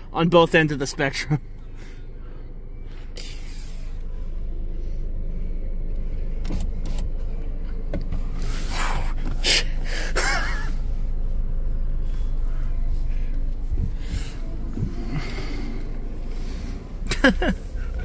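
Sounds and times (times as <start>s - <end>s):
car idling: 0.0s - 18.0s.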